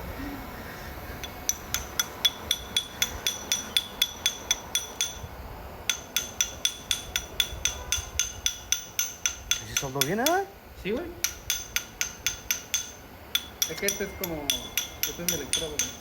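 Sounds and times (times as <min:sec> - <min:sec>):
chipping hammer tapping metal: 0:01.2 - 0:05.3, 0:05.9 - 0:10.5, 0:11.2 - 0:16.0.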